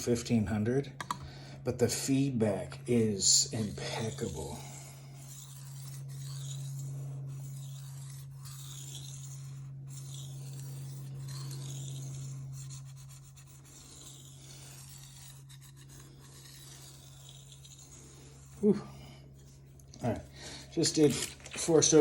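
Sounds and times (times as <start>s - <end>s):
steady low hum: 0.0s - 22.0s
knife scraping on whetstone: 2.8s - 22.0s.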